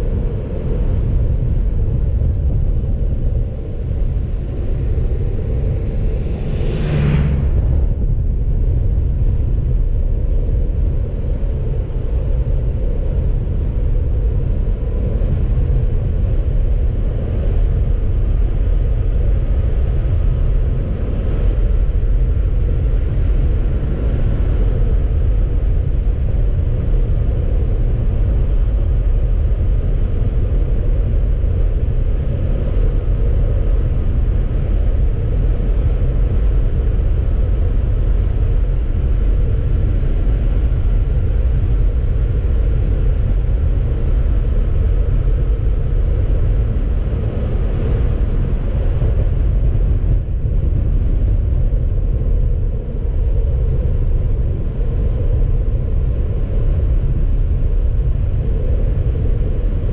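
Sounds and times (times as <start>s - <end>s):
faint whine: 0.0s - 59.9s
road and wind noise: 0.0s - 59.9s.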